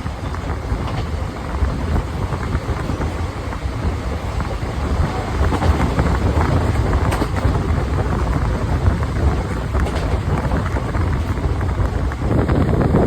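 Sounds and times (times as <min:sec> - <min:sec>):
wheels rumbling on rail: 0:00.0 - 0:13.0
wind buffeting microphone: 0:00.0 - 0:13.0.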